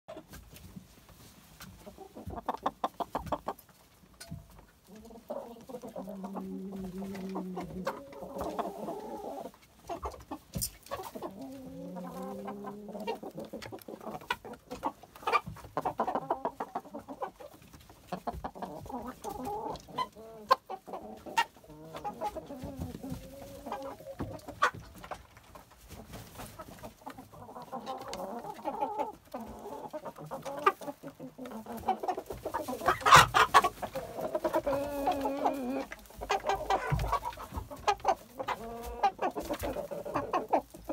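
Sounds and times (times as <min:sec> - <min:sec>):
chickens clucking: 0:00.1 - 0:40.9.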